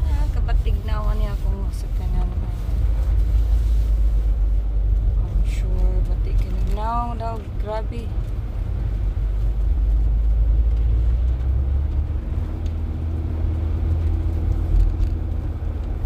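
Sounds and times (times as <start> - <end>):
tyres and engine rumble: 0.0 - 16.0.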